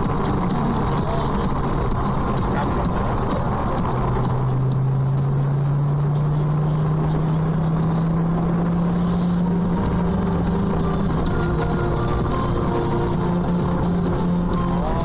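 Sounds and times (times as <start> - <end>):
road noise: 0.0 - 15.0
vehicle engine droning: 0.0 - 15.0.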